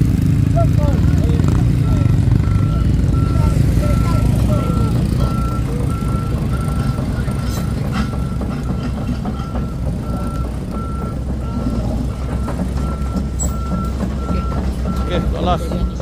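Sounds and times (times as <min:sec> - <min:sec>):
diesel truck engine rumbling: 0:00.0 - 0:16.0
reversing alarm beeping: 0:01.0 - 0:16.0.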